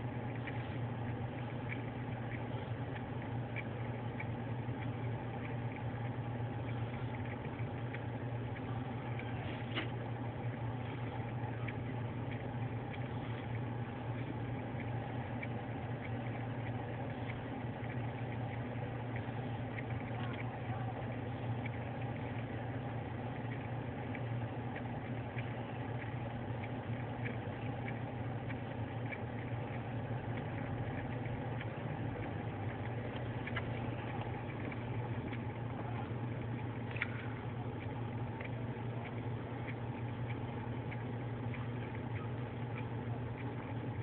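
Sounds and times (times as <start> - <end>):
faint clicks: 0.0 - 44.0
vehicle engine humming: 0.0 - 44.0.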